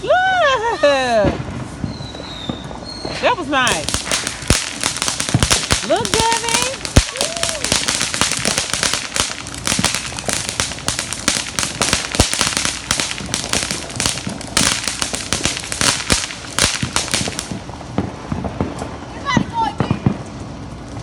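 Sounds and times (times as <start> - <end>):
fireworks bangs: 0.0 - 21.0
fireworks crackling and popping: 0.0 - 21.0.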